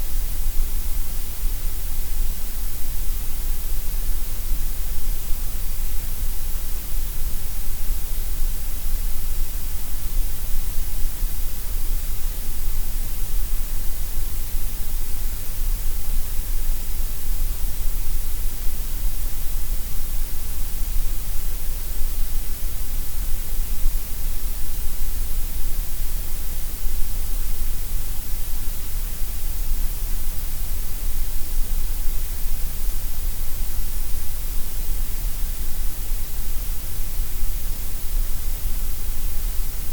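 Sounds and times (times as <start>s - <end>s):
steady gray noise hiss: 0.0s - 39.9s.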